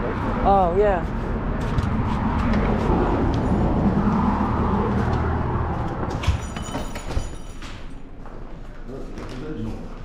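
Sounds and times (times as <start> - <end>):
vehicle engine rumbling: 0.0 - 8.8.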